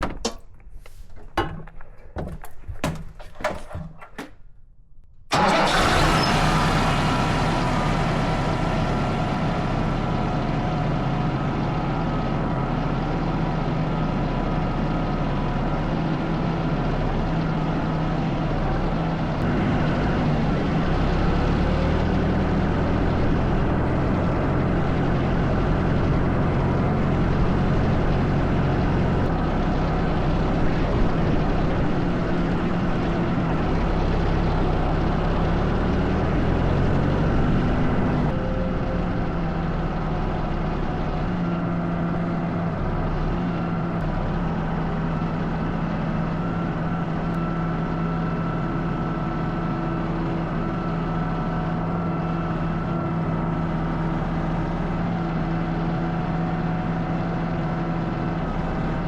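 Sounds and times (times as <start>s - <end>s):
diesel engine running steadily: 5.3s - 59.0s.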